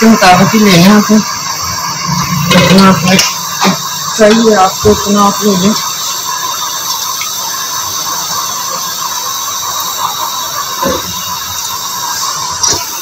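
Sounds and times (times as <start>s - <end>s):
oil hissing in a pan: 0.0s - 13.0s.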